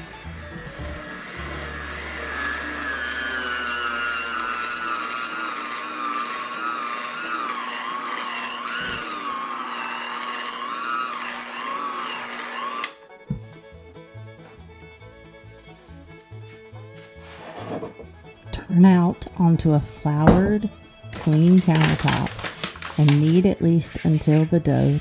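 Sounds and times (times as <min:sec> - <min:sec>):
electric hand mixer whining: 0:00.0 - 0:13.5, 0:17.3 - 0:25.0.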